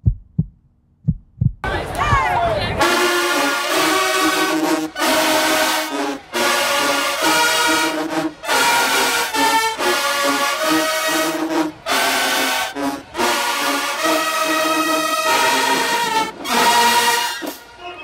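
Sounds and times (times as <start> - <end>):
marching band brass playing: 2.8 - 18.0.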